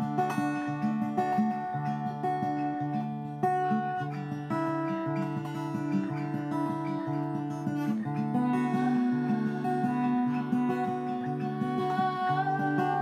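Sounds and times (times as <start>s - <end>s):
guitar strumming: 0.0s - 13.0s.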